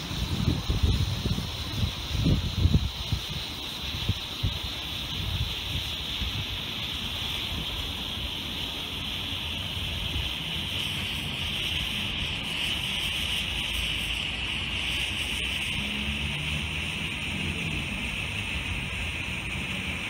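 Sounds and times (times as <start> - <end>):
ground firework hissing: 0.0 - 20.0.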